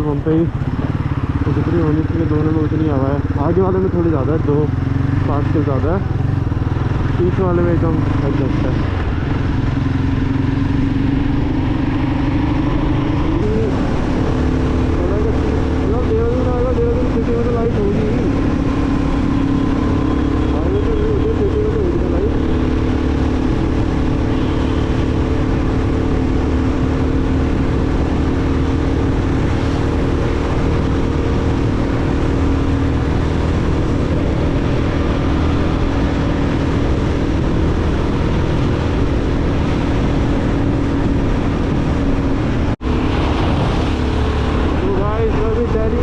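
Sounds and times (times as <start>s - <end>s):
motorcycle engine cruising: 0.0s - 46.0s
wind rush on microphone: 7.9s - 46.0s.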